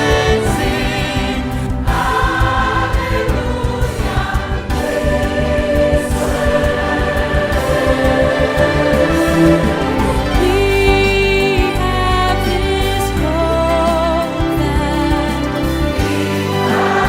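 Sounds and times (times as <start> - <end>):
choir singing gospel music: 0.0 - 17.0.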